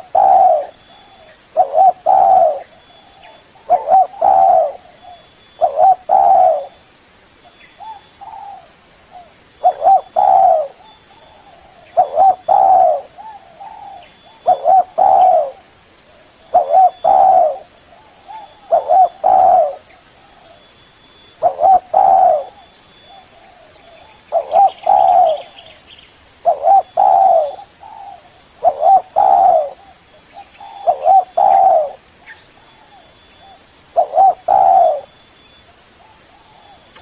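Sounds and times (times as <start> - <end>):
dove cooing: 0.0 - 6.8, 7.8 - 20.7, 21.3 - 25.8, 26.4 - 35.2, 36.0 - 37.0.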